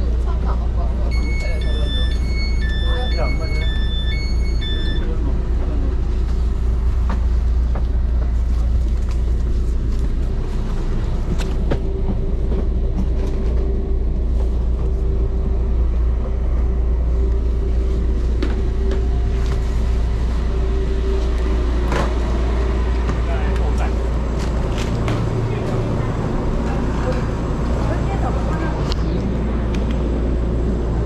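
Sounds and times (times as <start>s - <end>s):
train equipment humming: 0.0s - 31.0s
low rumble: 3.6s - 31.0s.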